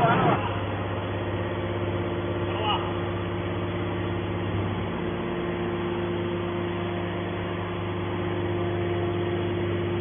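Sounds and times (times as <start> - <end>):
hydraulic power unit droning hum: 0.0 - 10.0.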